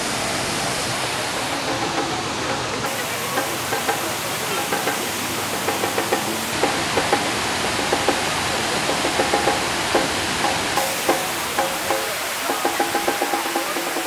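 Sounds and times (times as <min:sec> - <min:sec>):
waterfall pouring over rock: 0:00.0 - 0:14.0.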